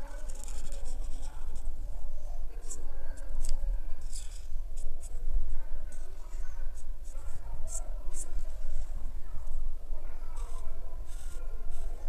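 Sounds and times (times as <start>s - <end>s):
marker scratching on paper: 0.0s - 1.8s, 2.5s - 9.6s, 10.2s - 12.0s.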